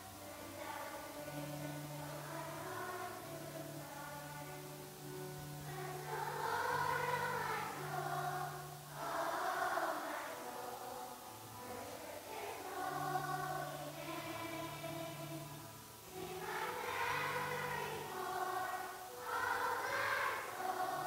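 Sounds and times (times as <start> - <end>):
group singing a hymn: 0.0 - 21.0.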